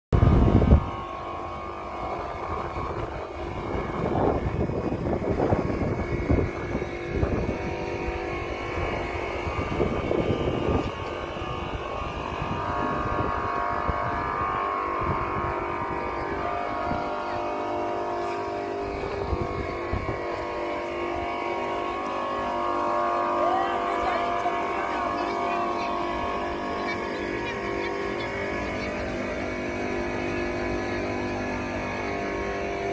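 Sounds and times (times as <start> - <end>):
motor humming: 0.2 - 32.9
wind buffeting microphone: 0.2 - 32.9.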